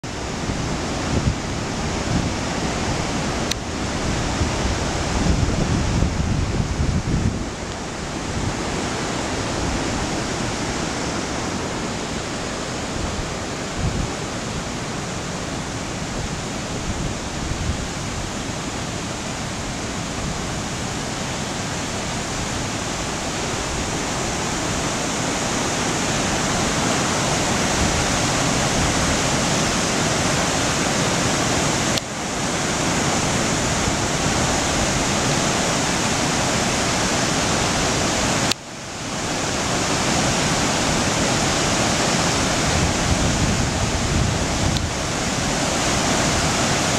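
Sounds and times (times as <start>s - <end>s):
fast churning water rushing: 0.0s - 46.9s.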